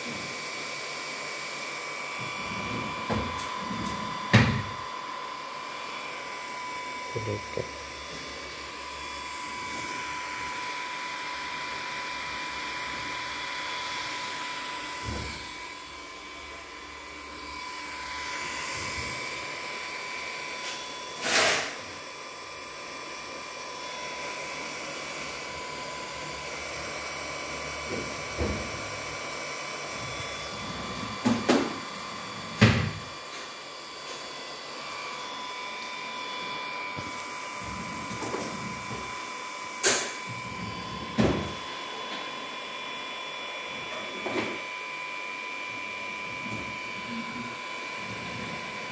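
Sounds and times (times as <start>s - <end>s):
cooling fans whirring with whine: 2.1s - 42.9s.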